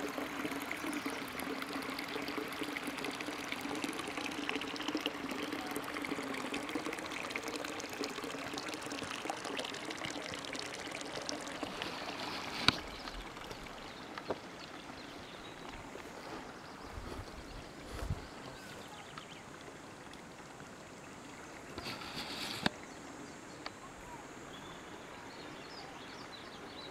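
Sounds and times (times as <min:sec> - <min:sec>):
water trickling: 0:00.0 - 0:26.9.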